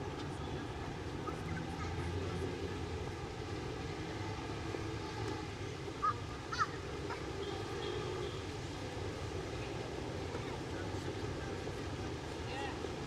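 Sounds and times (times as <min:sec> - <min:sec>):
low city street hum: 0:00.0 - 0:13.0.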